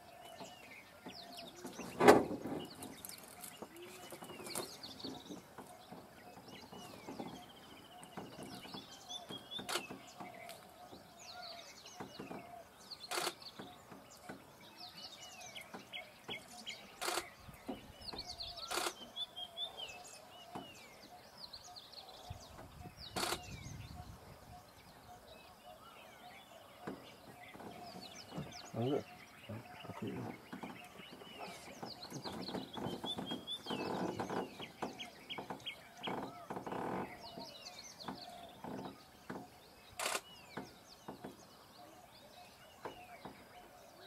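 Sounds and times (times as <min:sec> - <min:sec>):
wild birds chirping: 0:00.0 - 0:44.0.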